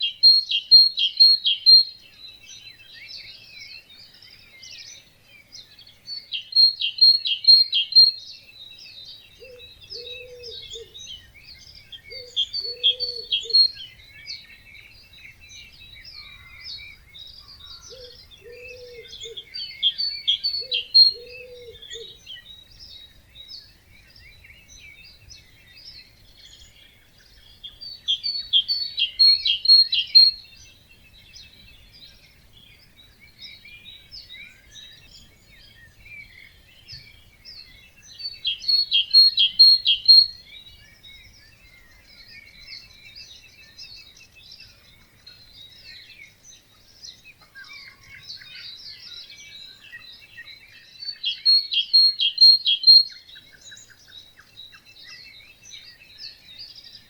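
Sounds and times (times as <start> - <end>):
bird singing rapid repeated notes: 0.0 - 57.0
songbirds chirping: 0.0 - 57.0.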